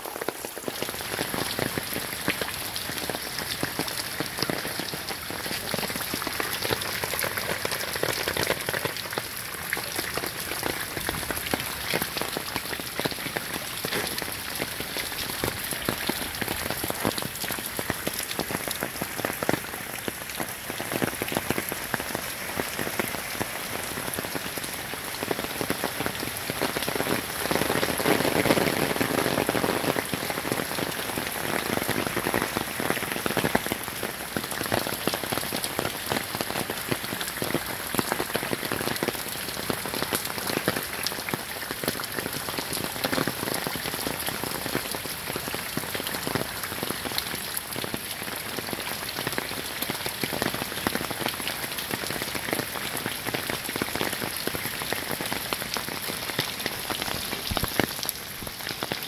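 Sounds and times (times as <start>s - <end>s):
heavy rain on waterlogged lawn: 0.0s - 59.0s.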